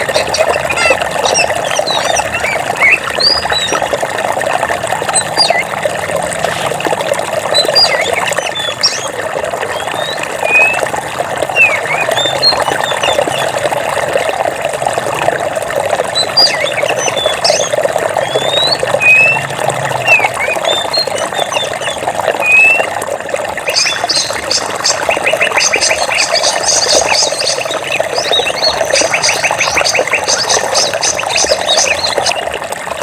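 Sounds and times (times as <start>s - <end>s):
birds chirping: 0.0s - 4.0s, 5.0s - 5.8s, 7.4s - 14.4s, 16.1s - 22.9s, 23.6s - 32.6s
flowing water rushing: 0.0s - 33.0s.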